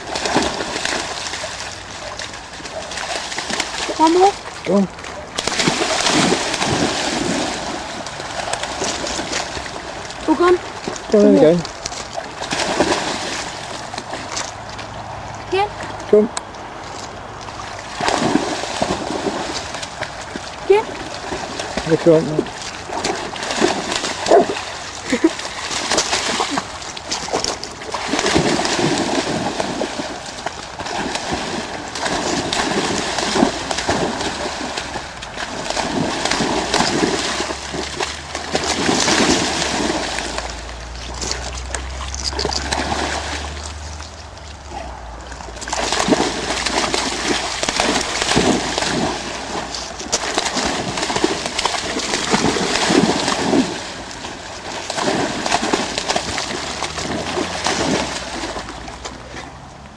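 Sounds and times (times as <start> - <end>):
dog splashing through water: 0.0 - 59.9.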